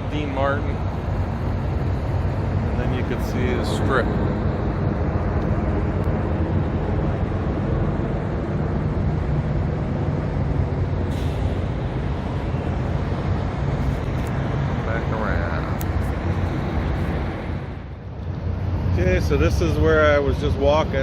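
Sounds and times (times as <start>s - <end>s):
city road traffic rumble: 0.0s - 21.0s.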